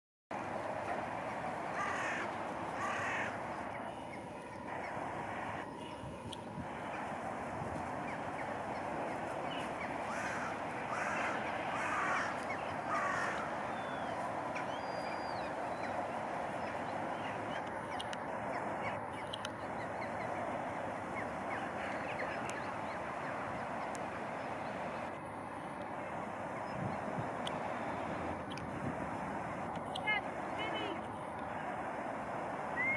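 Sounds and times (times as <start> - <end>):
birds calling: 0.4 - 28.8
steady background hiss: 0.4 - 32.9.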